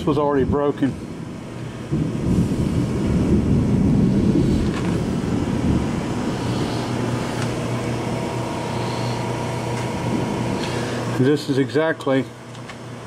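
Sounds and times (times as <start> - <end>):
machine humming and whirring: 0.0 - 13.0.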